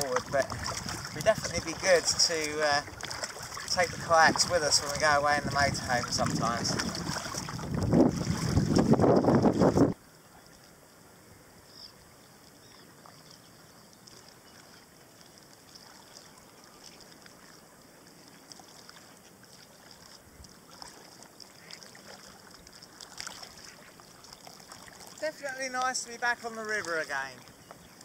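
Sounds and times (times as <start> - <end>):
kayak paddle splashes: 0.0 - 10.8, 12.6 - 28.0
river water lapping: 0.0 - 28.0.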